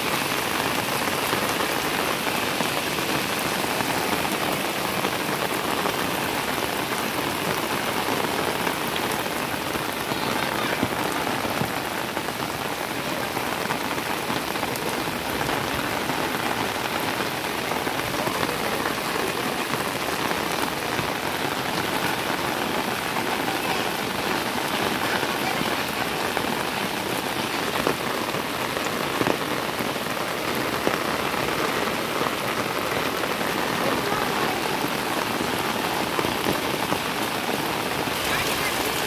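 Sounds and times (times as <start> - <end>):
heavy rain on standing water: 0.0 - 39.0.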